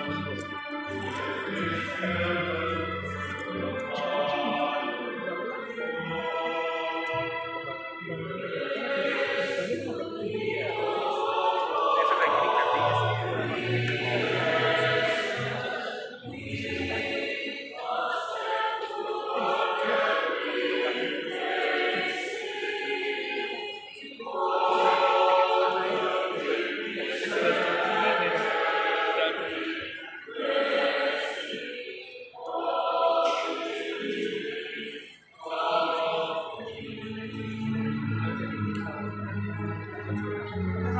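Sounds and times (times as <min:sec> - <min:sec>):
church choir singing: 0:00.0 - 0:40.9.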